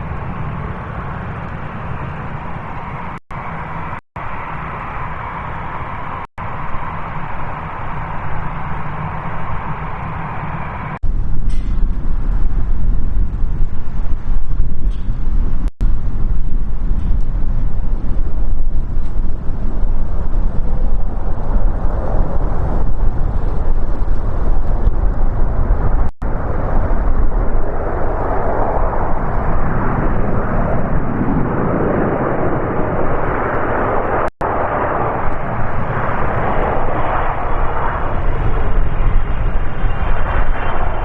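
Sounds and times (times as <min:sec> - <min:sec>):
jet engines passing close: 0:00.0 - 0:41.0.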